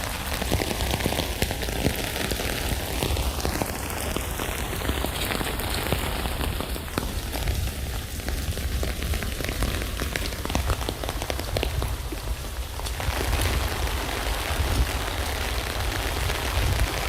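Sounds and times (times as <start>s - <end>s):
raindrops tapping on a tent: 0.0s - 17.0s.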